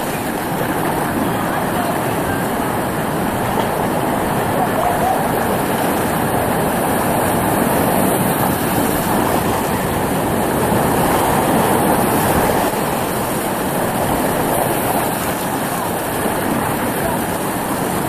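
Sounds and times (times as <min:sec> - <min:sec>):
whitewater rapids rushing: 0:00.0 - 0:18.0.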